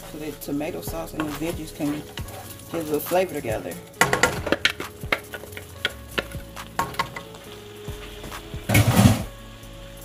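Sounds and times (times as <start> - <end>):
spatula scraping skillet: 1.1 - 9.3.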